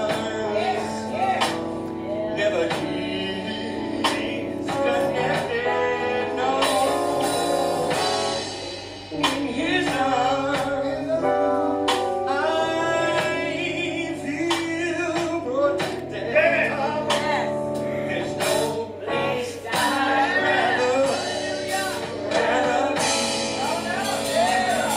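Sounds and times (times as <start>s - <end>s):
instrumental accompaniment: 0.0s - 24.9s
man singing: 0.0s - 24.9s.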